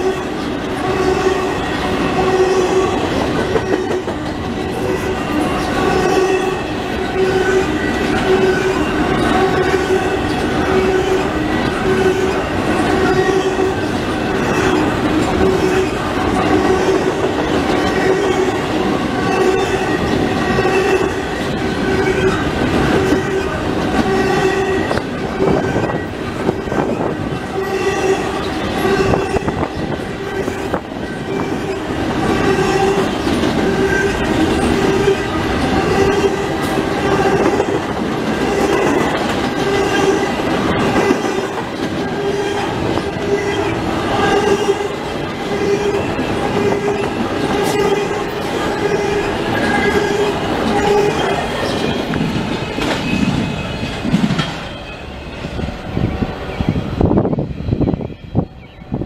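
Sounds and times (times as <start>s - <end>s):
railcars rolling over rails: 0.0s - 59.0s.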